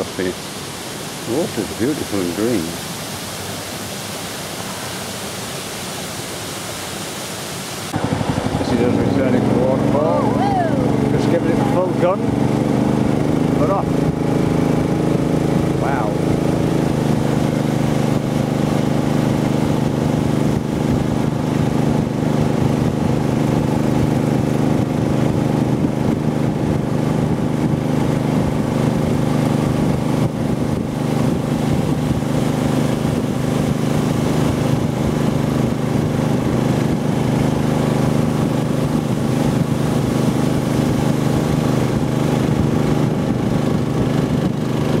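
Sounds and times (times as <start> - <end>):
boat engine at full throttle: 0.0 - 45.0.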